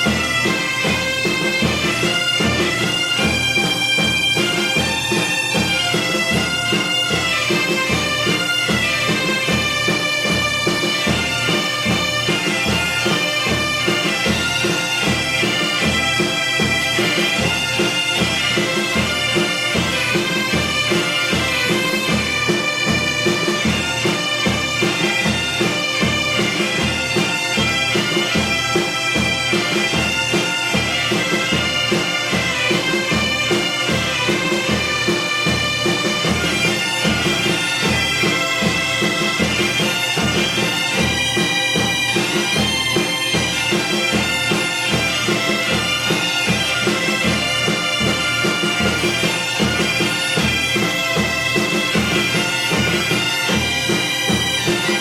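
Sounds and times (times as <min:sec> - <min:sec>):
drum beat: 0:00.0 - 0:55.0
reed wind instrument melody: 0:00.0 - 0:55.0.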